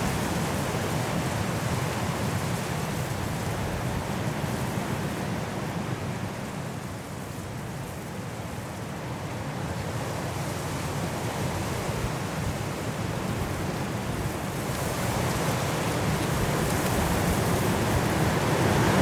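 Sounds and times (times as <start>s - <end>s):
strong wind through trees: 0.0s - 19.0s.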